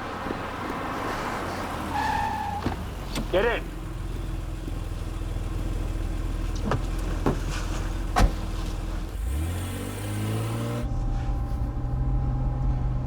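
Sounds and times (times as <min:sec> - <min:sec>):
car engine running and revving: 0:00.0 - 0:13.0.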